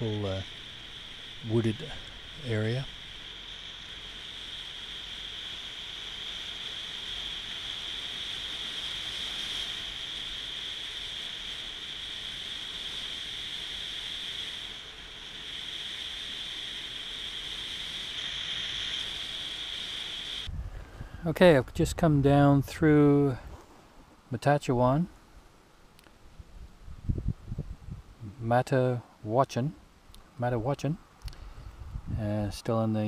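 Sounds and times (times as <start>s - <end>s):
rushing wind: 0.0s - 23.6s, 26.3s - 28.5s, 31.3s - 32.5s
high hiss: 0.0s - 26.2s, 27.1s - 33.0s.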